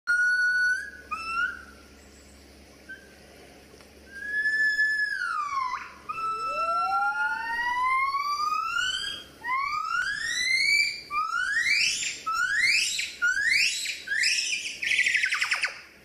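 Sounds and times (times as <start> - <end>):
gibbon whistle-like hoots: 0.1 - 1.9, 2.8 - 3.1, 4.1 - 15.8.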